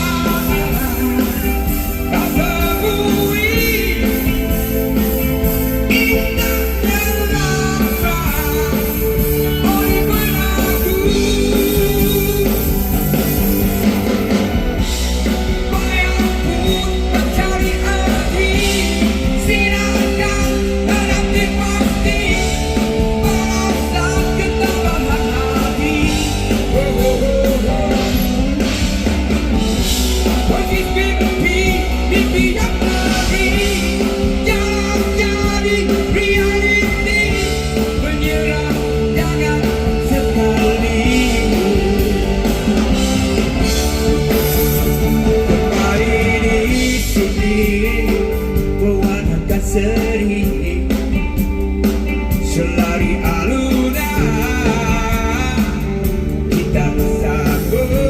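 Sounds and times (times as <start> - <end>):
live rock band music: 0.0 - 58.0
melodic lead guitar line: 0.0 - 58.0.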